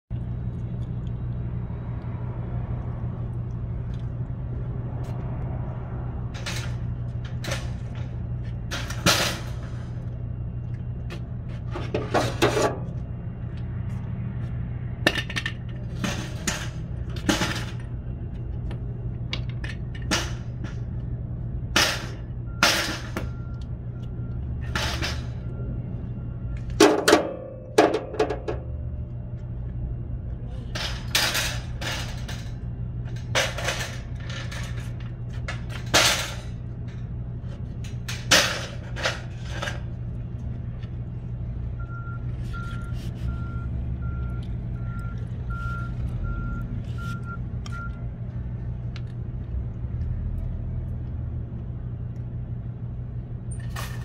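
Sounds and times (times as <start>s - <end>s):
low hum: 0.1s - 54.0s.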